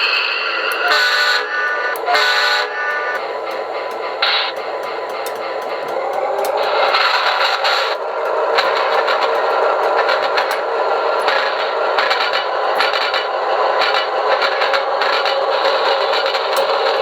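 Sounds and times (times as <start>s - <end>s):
model train running sound from speaker: 0.0s - 17.0s.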